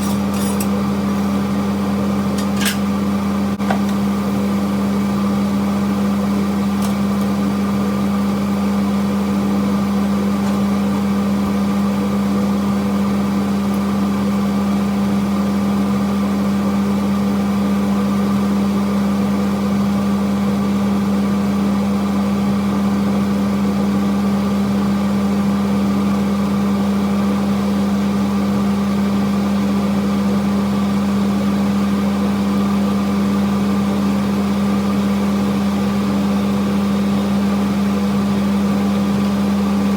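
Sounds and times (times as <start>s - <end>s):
machine hum with low drone: 0.0s - 39.9s.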